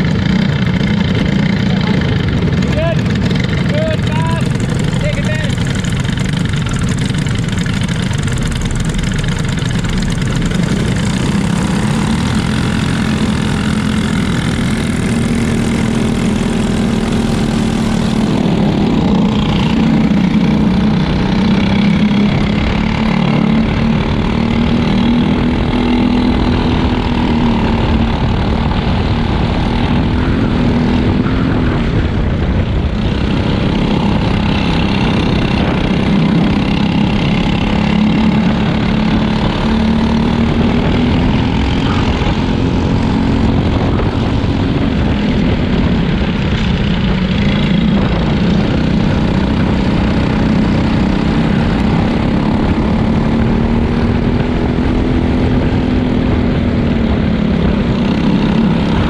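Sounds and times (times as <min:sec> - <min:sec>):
kart engines running: 0:00.0 - 0:59.0.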